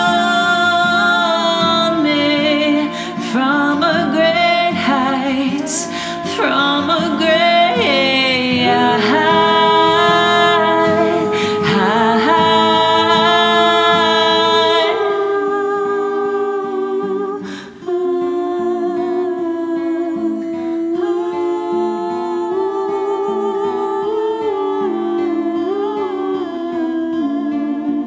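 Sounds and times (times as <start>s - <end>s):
wordless vocals in harmony: 0.0s - 28.0s.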